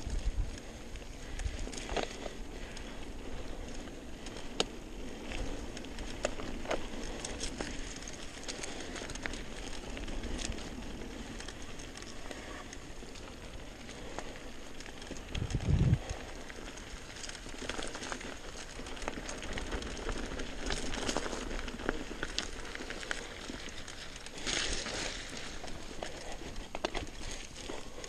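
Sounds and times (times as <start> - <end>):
tyres crunching over gravel: 0.0 - 28.0
bike clicks and knocks: 1.4 - 28.0.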